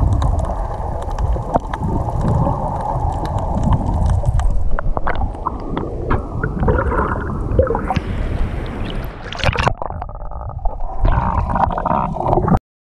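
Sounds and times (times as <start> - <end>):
water sloshing and splashing: 0.0 - 12.6.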